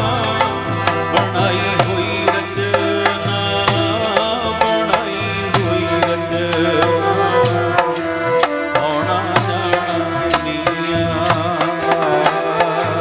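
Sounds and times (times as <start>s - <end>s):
held instrumental notes: 0.0s - 13.0s
man singing: 0.0s - 13.0s
tabla drumming: 0.0s - 13.0s.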